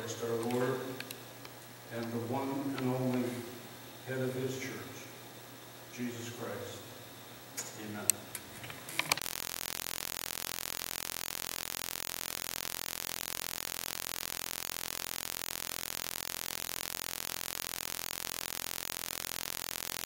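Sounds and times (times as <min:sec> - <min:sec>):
static hiss: 0:00.0 - 0:20.0.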